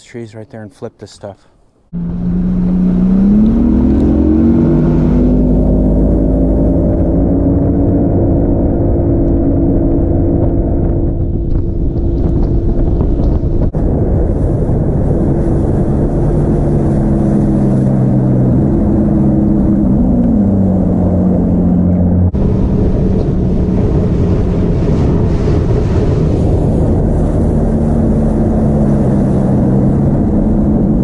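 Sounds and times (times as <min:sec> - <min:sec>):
outboard motor running: 0:01.9 - 0:31.0
water rushing past hull: 0:01.9 - 0:31.0
wind over microphone: 0:01.9 - 0:31.0.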